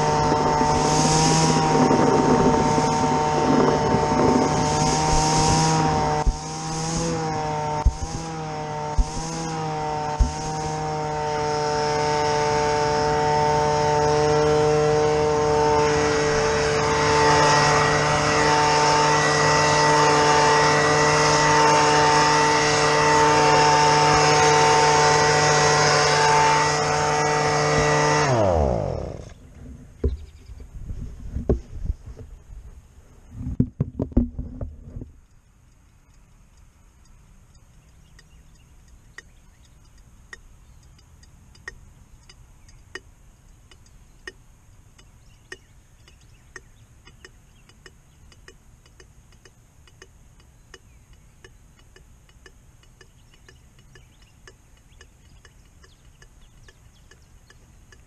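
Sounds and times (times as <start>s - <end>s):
small engine running: 0.0s - 30.4s, 37.0s - 58.0s.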